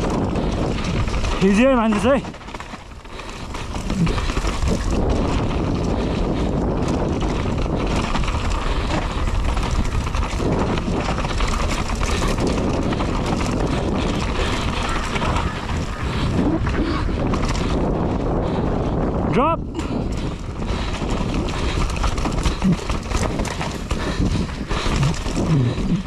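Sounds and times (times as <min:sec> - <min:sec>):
bike and tyres rattling: 0:00.0 - 0:26.0
wind rushing on microphone: 0:00.0 - 0:26.0.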